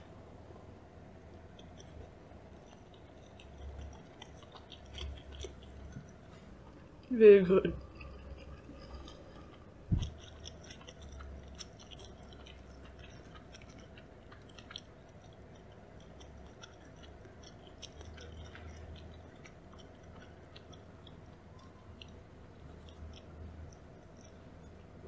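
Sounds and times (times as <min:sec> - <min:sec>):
wet chewing clicks and smacks: 0:00.6 - 0:07.1, 0:07.8 - 0:25.0.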